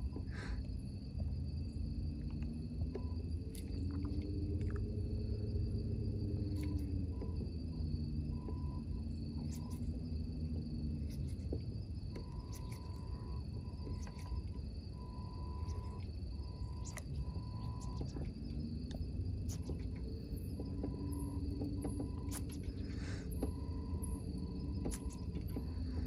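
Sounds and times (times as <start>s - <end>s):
broken-up insect tone: 0.0s - 26.0s
crickets chirring: 0.0s - 26.0s
engine-like hum: 0.0s - 26.0s
low rumble: 0.0s - 26.0s.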